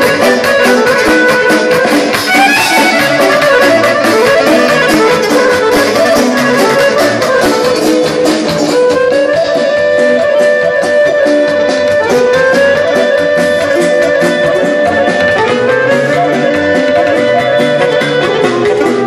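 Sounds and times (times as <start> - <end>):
accordion: 0.0 - 19.0
electric violin melody: 0.0 - 19.0
keyboard: 0.0 - 19.0
steady drum beat: 0.0 - 19.0.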